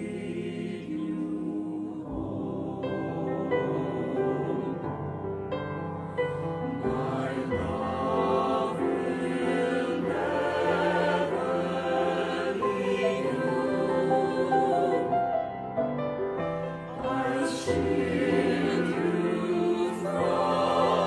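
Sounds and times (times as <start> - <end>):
mixed choir singing: 0.0 - 15.8, 16.7 - 21.0.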